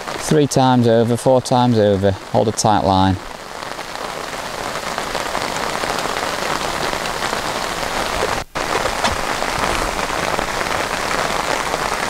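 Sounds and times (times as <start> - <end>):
heavy rain on water: 0.0 - 12.0.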